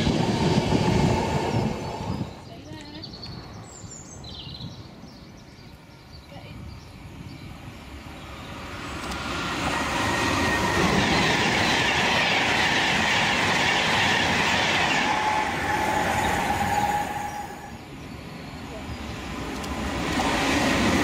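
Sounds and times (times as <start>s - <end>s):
electric train passing at speed: 0.0s - 21.0s.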